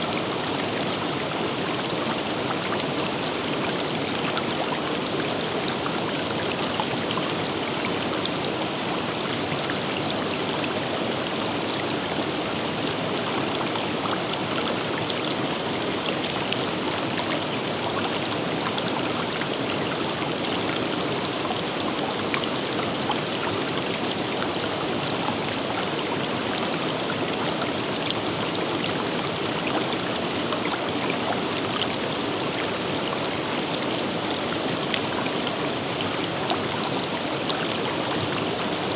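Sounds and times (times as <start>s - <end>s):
river water over rocks: 0.0s - 38.9s.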